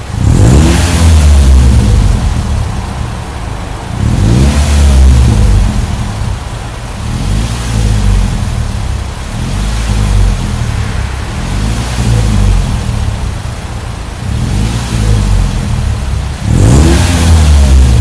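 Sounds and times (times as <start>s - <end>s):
car engine idling: 0.0s - 18.0s
car engine revving: 0.0s - 18.0s.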